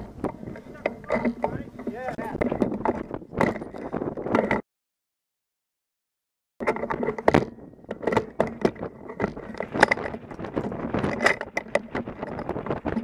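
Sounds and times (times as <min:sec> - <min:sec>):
wind on microphone: 0:00.0 - 0:04.6, 0:06.6 - 0:13.0.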